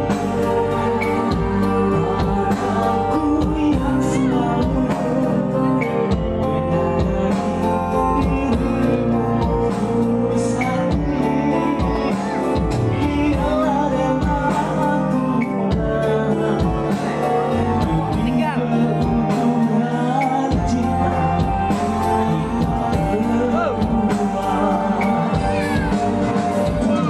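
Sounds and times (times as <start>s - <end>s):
electric guitar: 0.0s - 27.0s
electronic keyboard with steady beat: 0.0s - 27.0s
man singing through a microphone: 0.0s - 27.0s.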